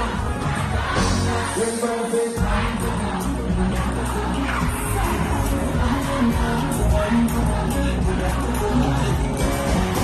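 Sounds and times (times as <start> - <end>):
band music over a pa: 0.0 - 10.0.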